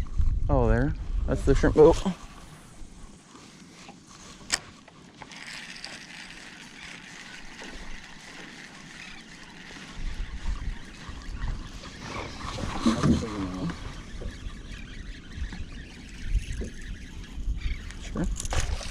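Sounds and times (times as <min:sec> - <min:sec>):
water and wind hiss: 0:00.0 - 0:18.9.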